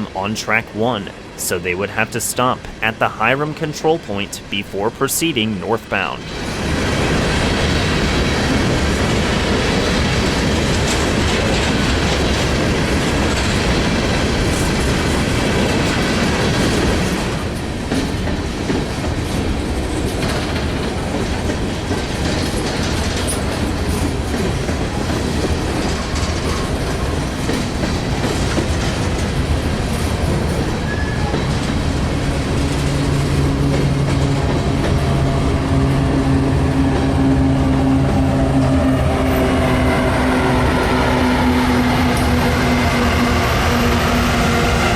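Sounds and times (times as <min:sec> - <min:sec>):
train rolling past: 0:06.2 - 0:44.9.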